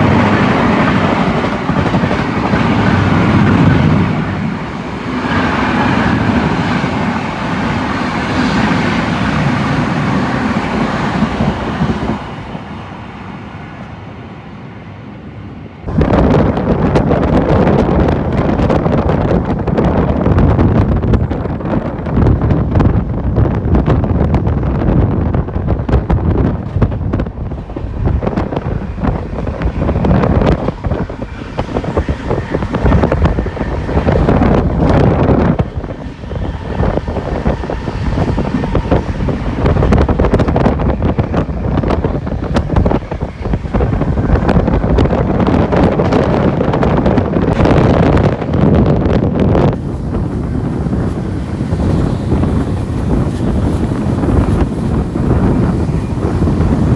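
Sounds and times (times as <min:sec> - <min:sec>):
train wheels clattering on rails: 0:00.0 - 0:13.0, 0:15.8 - 0:56.9
wind buffeting microphone: 0:00.0 - 0:56.9.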